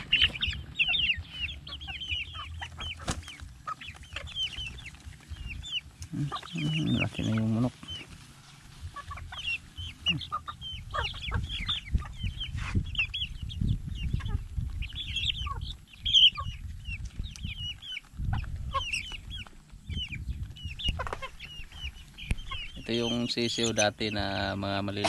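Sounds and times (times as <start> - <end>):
chicks chirping and clucking: 0.0 - 25.0.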